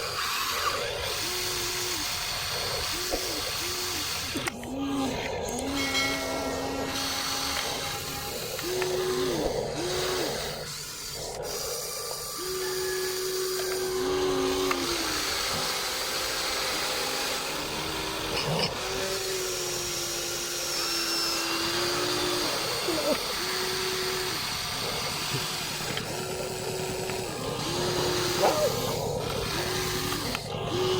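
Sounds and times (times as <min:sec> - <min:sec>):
toy excavator electric motors whining: 0:00.0 - 0:30.9.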